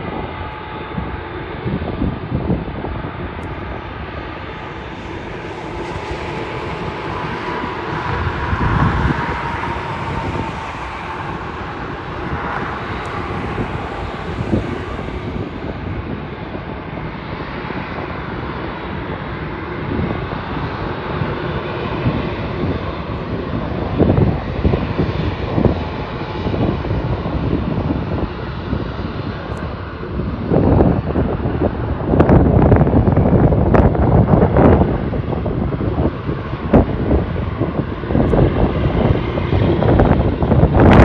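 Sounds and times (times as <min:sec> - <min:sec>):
jet engines humming: 0:00.0 - 0:41.0
wind buffeting microphone: 0:00.0 - 0:41.0.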